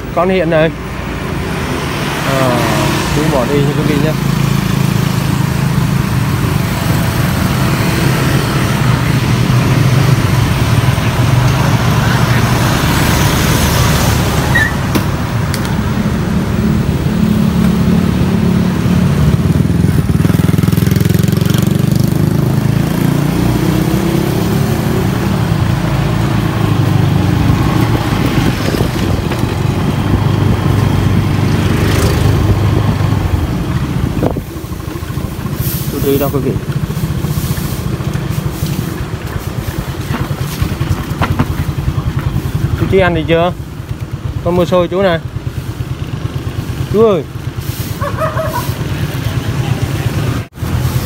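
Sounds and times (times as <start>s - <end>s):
road and wind noise: 0.0s - 51.0s
motor scooter engine running: 2.5s - 51.0s.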